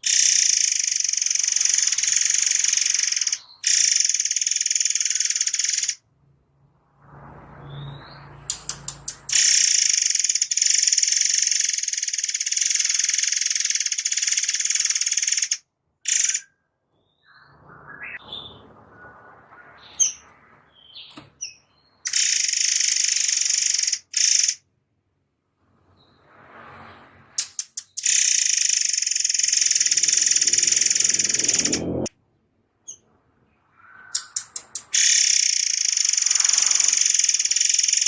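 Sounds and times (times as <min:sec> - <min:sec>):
bird singing rapid trills: 0:00.0 - 0:06.0, 0:07.6 - 0:18.6, 0:19.8 - 0:24.6, 0:27.4 - 0:32.1, 0:32.8 - 0:38.0.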